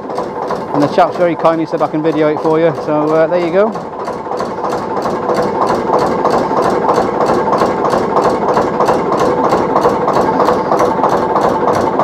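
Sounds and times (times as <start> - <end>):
diesel engine ticking over: 0.0 - 12.0.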